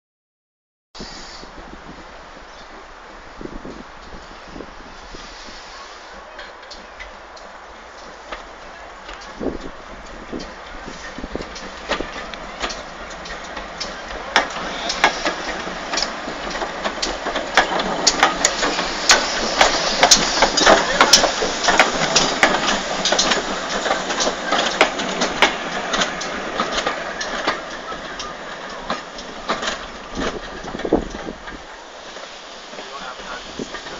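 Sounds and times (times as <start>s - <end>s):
train passing close by: 1.0s - 33.9s
wheels clanking over track: 5.2s - 33.9s.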